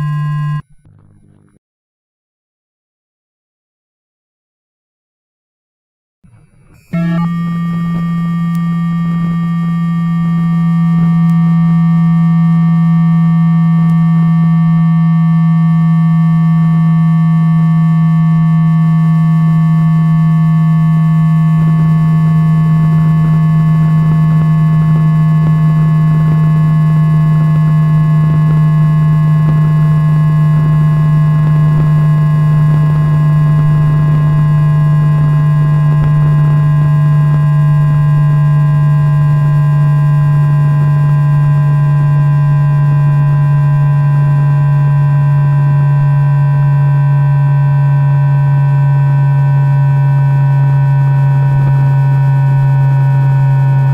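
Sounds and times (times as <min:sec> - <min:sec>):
electric train motor hum: 0:00.0 - 0:01.4, 0:06.3 - 0:53.9.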